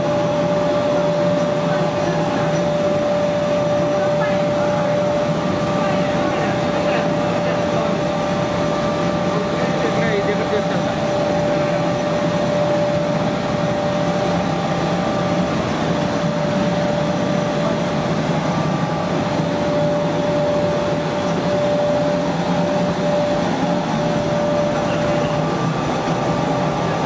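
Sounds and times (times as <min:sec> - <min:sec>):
roller mill running: 0:00.0 - 0:27.0.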